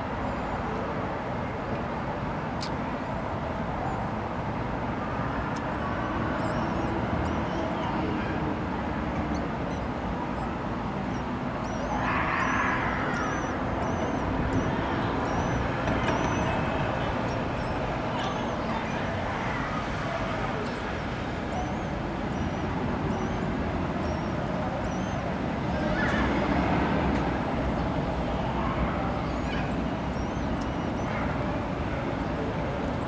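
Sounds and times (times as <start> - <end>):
urban traffic rumble: 0.0 - 33.0.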